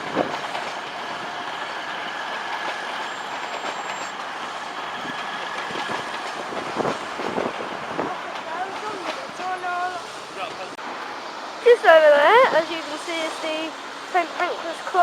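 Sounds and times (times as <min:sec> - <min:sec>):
passenger train running: 0:00.0 - 0:15.0.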